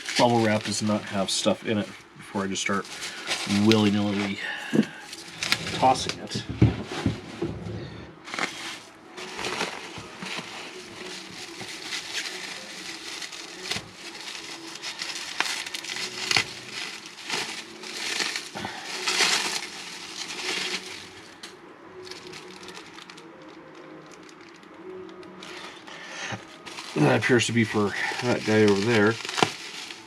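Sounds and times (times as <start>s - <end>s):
bubble wrap crinkling: 0.0s - 30.0s.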